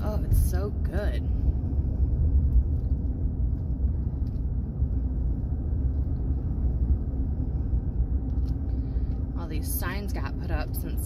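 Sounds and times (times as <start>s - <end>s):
minivan driving on road: 0.0s - 11.0s.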